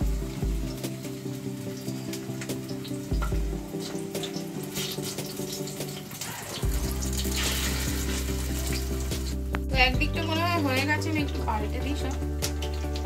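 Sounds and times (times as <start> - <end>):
background music: 0.0 - 13.0
patties sizzling in hot oil: 0.0 - 13.0.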